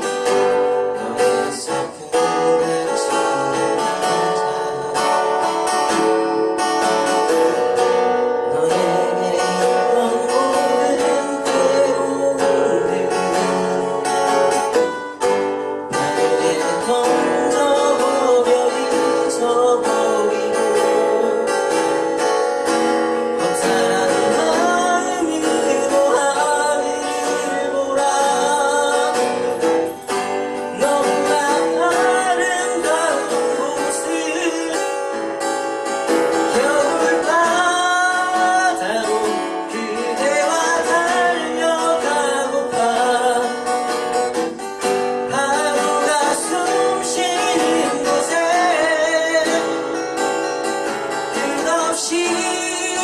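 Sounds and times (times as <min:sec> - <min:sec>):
acoustic guitar strumming: 0:00.0 - 0:53.0
person singing: 0:00.0 - 0:53.0.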